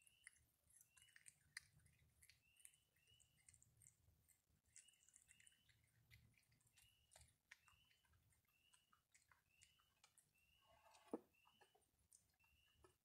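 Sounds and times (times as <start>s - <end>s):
animal sniffing and nibbling: 0.0s - 13.0s.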